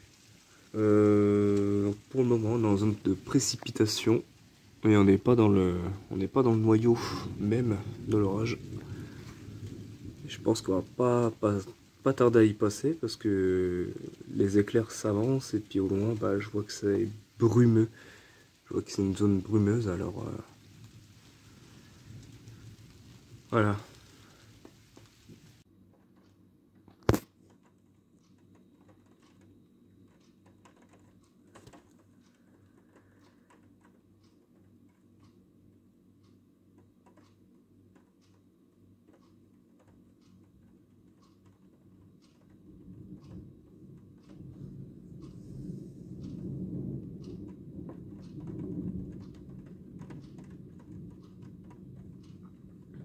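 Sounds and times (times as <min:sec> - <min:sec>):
low steady rumble: 0:00.0 - 0:53.0
raindrops ticking on hard surface: 0:00.0 - 0:53.0.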